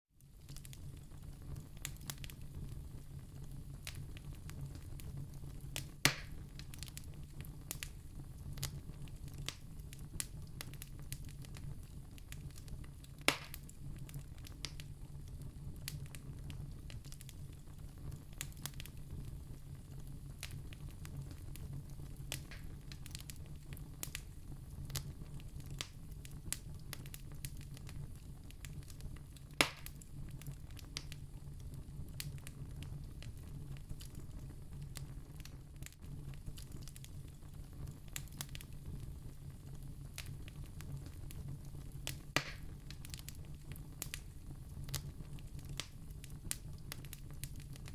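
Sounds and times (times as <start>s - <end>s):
fire popping: 0.2s - 47.9s
wood fire crackling: 0.2s - 47.9s.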